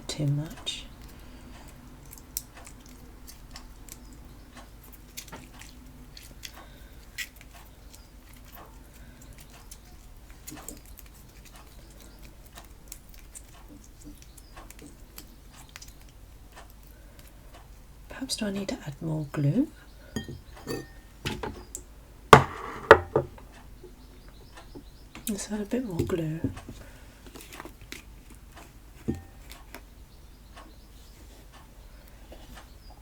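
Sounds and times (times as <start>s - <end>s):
low steady hum: 0.0s - 12.4s, 16.0s - 31.0s.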